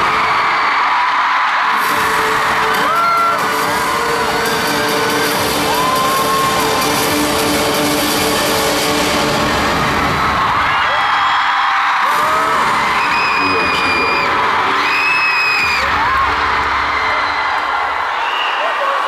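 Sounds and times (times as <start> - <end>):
fans screaming close by: 0.0 - 7.2, 9.4 - 19.0
crowd screaming and cheering: 0.0 - 19.0.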